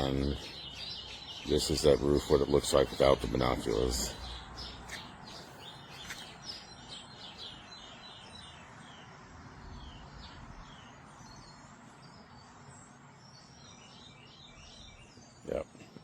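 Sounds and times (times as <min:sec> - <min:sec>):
birds chirping: 0:00.0 - 0:16.0
outdoor background hiss: 0:00.0 - 0:16.0.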